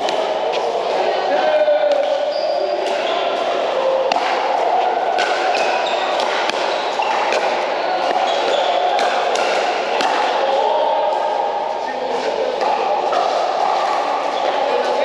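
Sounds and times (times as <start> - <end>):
background din of voices: 0.0 - 15.0.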